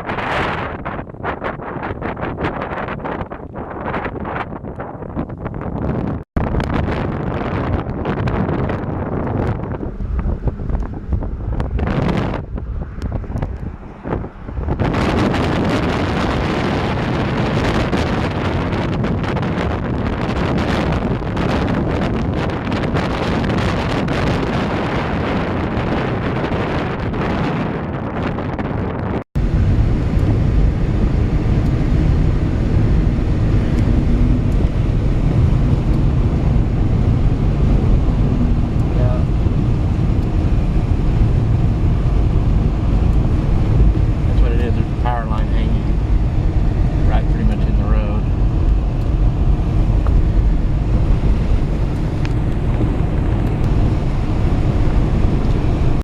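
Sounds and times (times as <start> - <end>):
vehicle noise: 0.0 - 56.0
wind buffeting microphone: 0.0 - 56.0.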